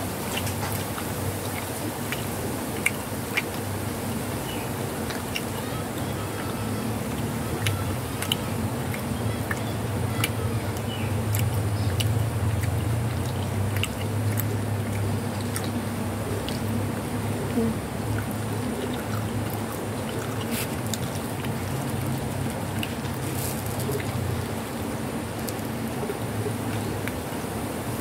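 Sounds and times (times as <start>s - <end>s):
cats chewing: 0.0s - 27.8s.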